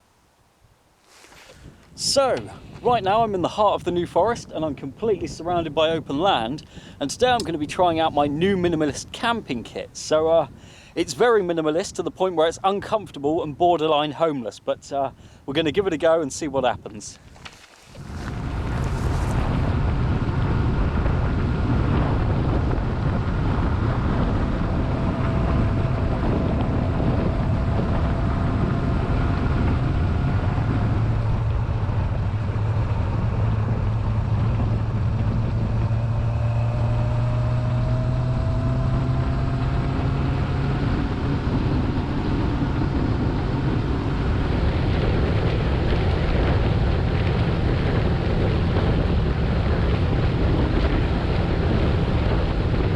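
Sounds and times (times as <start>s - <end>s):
wind rushing over microphone: 1.1s - 52.9s.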